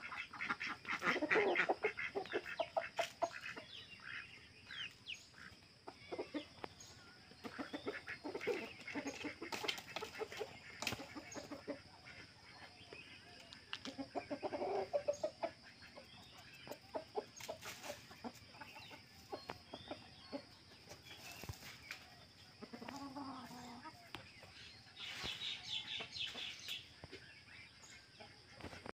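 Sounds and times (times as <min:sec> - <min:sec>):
chickens clucking: 0:00.0 - 0:28.9.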